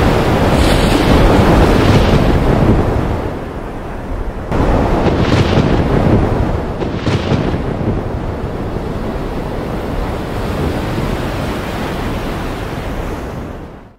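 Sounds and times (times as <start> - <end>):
wind and waves rushing: 0.0 - 13.9.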